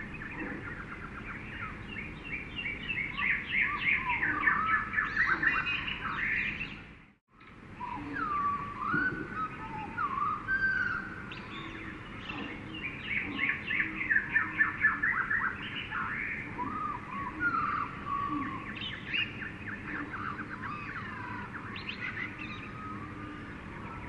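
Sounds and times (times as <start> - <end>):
birds calling and singing: 0.0 - 24.0
low hiss of jungle ambience: 0.0 - 24.0.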